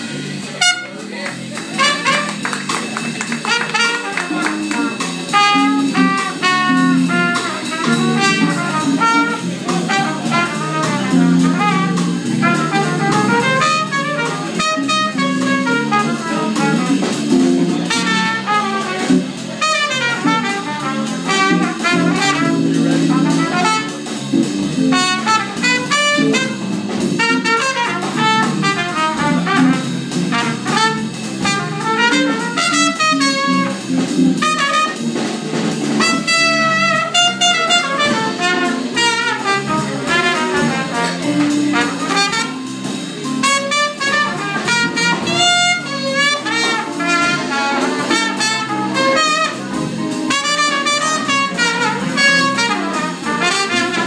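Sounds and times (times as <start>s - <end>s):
drum kit: 0.0s - 54.0s
trumpet lead lines: 0.0s - 54.0s.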